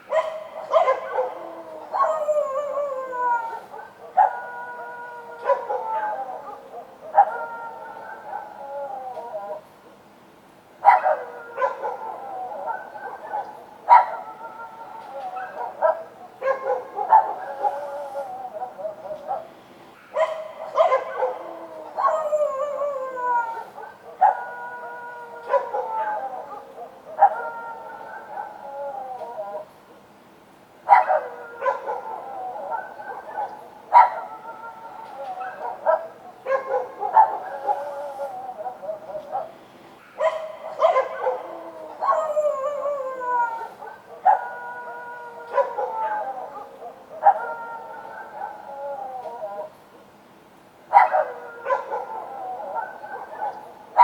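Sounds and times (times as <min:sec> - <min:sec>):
dogs barking: 0:00.0 - 0:08.6, 0:10.8 - 0:30.1, 0:30.8 - 0:49.8, 0:50.9 - 0:54.0
dogs howling: 0:00.0 - 0:09.8, 0:10.8 - 0:29.8, 0:30.8 - 0:49.9, 0:50.9 - 0:54.0.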